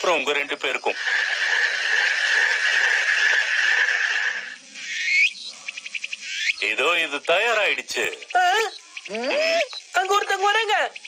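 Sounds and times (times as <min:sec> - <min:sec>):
steady hissing: 0:00.0 - 0:11.0.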